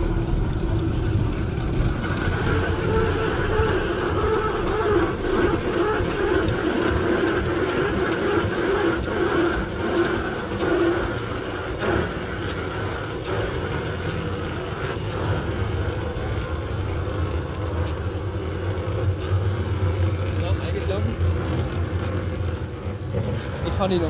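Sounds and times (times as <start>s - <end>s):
short clicks of sled wheels: 0.0s - 24.0s
sled wheels rumbling on metal trough: 0.0s - 24.0s.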